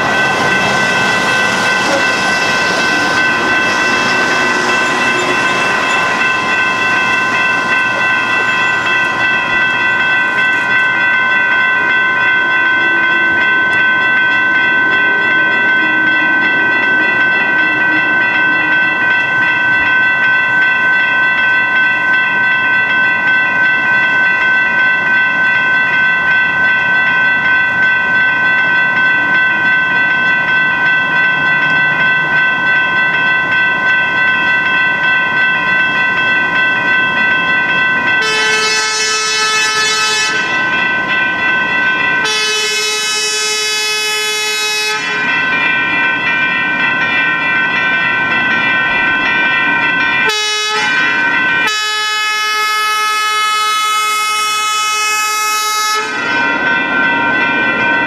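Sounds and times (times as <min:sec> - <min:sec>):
railroad crossing bell ringing: 0:00.0 - 0:58.0.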